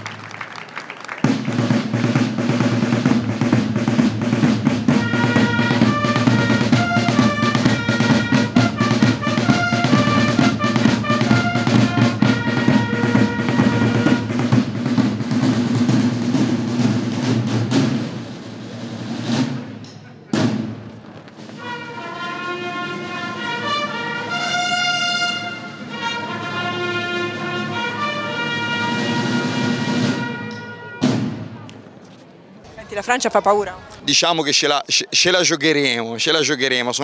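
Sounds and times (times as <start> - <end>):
marching drums rolling beat: 0.0 - 31.7.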